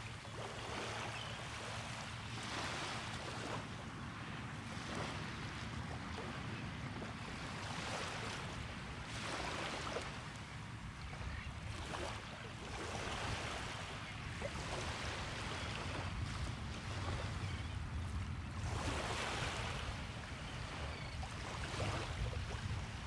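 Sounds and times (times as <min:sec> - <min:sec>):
small waves breaking on sand: 0:00.0 - 0:17.8, 0:18.5 - 0:23.0.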